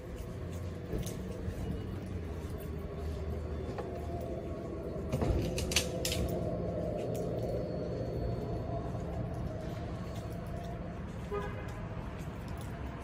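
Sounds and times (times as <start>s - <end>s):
low hum of traffic: 0.0s - 13.0s.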